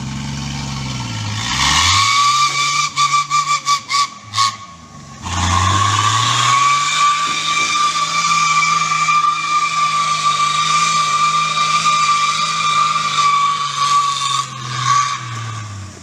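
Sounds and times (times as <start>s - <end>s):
car engine under load: 0.0s - 16.0s
turbo whistle: 1.9s - 15.9s.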